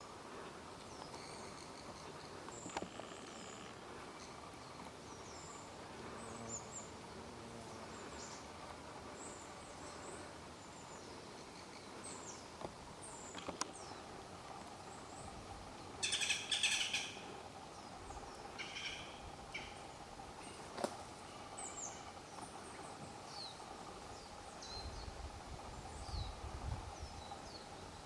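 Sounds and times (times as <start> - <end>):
woodland ambience hiss: 0.0 - 28.0.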